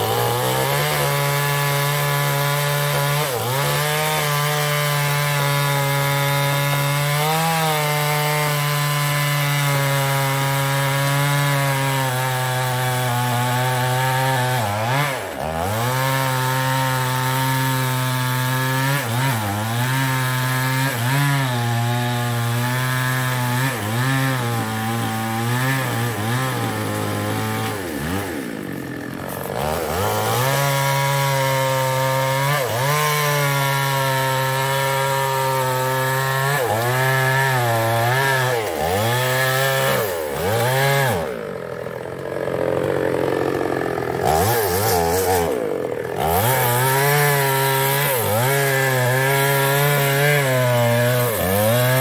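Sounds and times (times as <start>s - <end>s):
chainsaw cutting wood: 0.0s - 52.0s.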